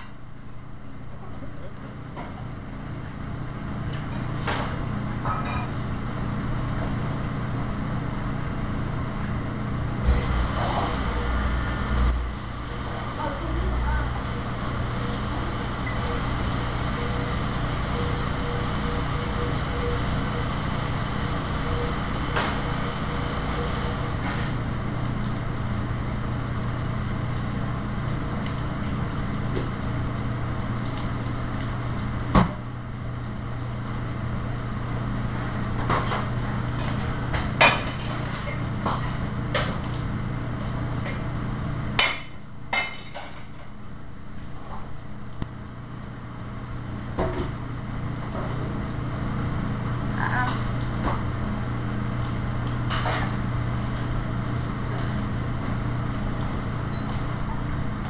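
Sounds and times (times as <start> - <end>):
exhaust hood hum and rush: 0.0 - 58.0.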